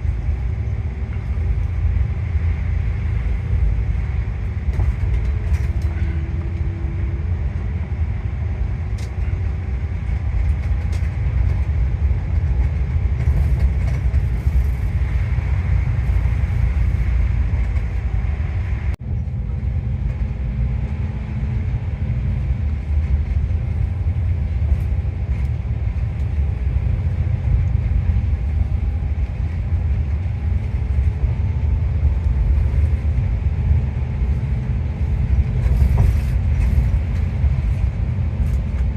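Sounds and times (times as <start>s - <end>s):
vehicle rumble: 0.0s - 38.9s.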